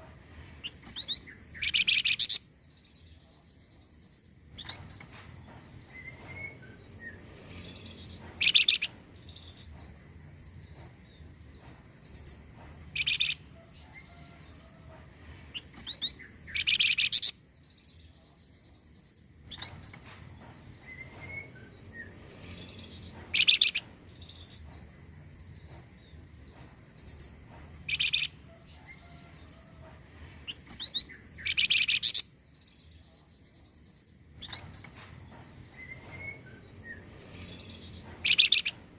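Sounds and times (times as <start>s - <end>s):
recorded songbird song: 0.6s - 14.7s, 15.5s - 29.4s, 30.4s - 38.9s.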